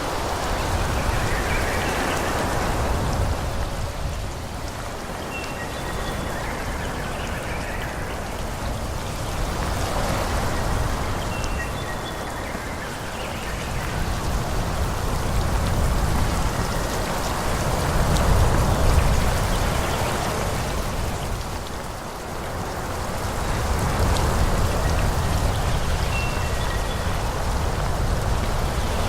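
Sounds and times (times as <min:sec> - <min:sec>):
wind rushing through tree leaves: 0:00.0 - 0:29.0.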